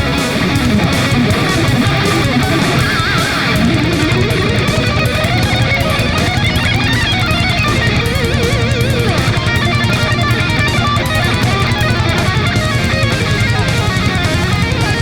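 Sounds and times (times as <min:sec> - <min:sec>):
electric guitar lead with vibrato: 0:00.0 - 0:15.0
low end bass: 0:00.0 - 0:15.0.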